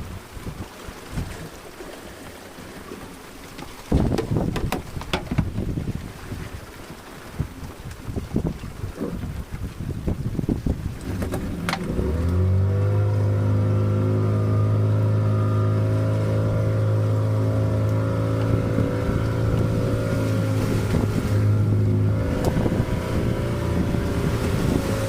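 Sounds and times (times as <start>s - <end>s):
water noise: 0.0s - 25.0s
wind: 0.0s - 25.0s
boat engine running: 1.2s - 25.0s.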